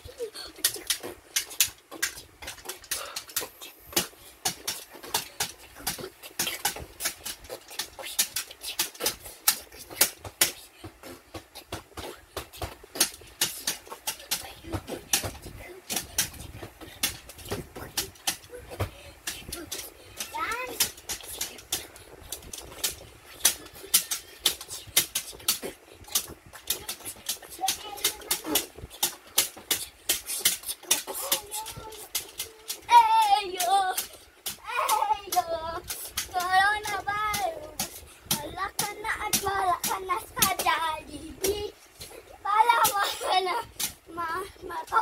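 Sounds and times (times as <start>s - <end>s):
child beatboxing: 0.0s - 45.0s.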